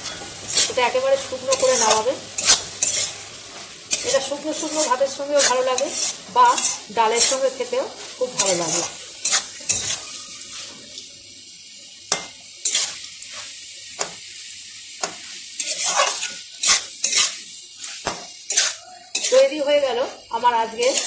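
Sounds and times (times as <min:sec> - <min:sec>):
metal spatula scraping pan: 0:00.0 - 0:10.8, 0:12.1 - 0:14.1, 0:15.0 - 0:21.0
light sizzle: 0:00.0 - 0:21.0.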